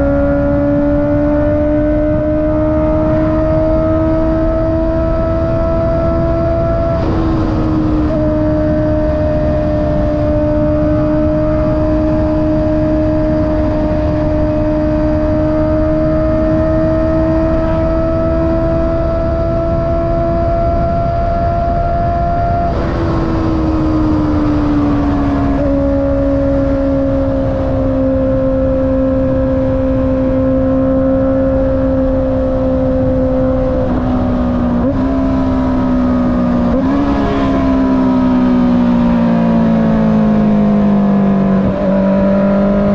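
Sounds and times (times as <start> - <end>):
motorcycle engine riding: 0.0 - 42.9
wind rush: 0.0 - 42.9.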